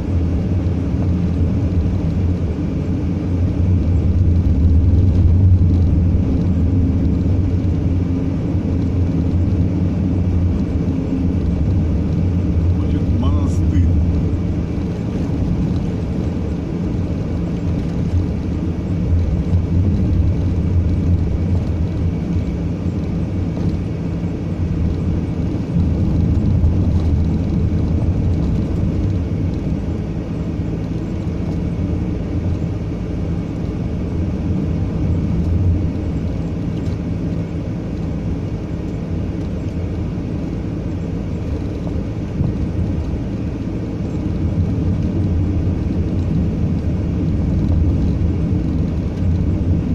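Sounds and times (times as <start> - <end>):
vehicle engine and road noise: 0.0 - 49.9.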